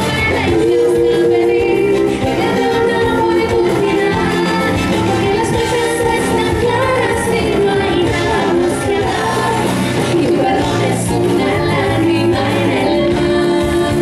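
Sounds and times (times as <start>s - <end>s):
band playing pop song: 0.0s - 14.0s
bass guitar: 0.0s - 14.0s
percussion: 0.0s - 14.0s
woman singing lead vocals: 0.0s - 14.0s.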